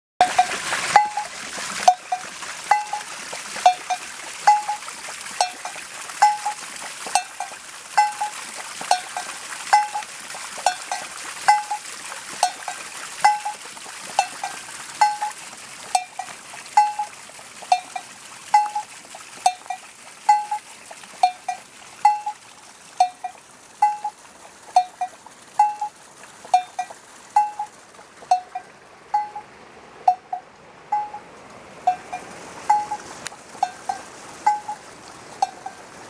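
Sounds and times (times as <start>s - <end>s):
water drops plinking: 0.2s - 29.5s, 30.1s - 34.8s, 35.4s - 35.8s
faint water trickle: 0.2s - 36.0s.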